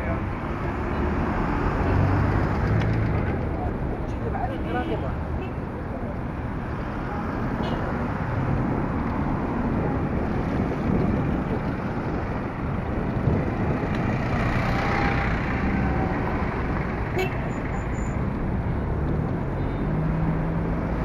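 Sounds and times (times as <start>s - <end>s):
city street traffic: 0.0s - 21.0s
vehicle road and wind noise: 0.0s - 21.0s.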